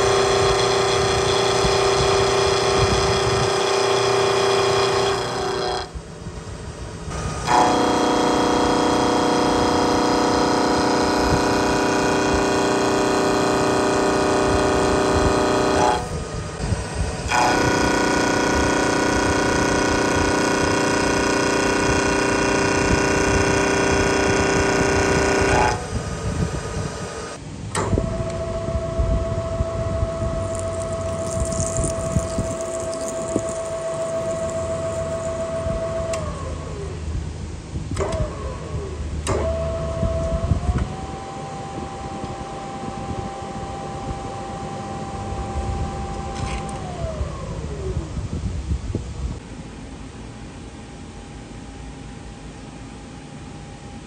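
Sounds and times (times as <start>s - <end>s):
milling machine whine: 0.0s - 37.0s, 38.0s - 48.2s.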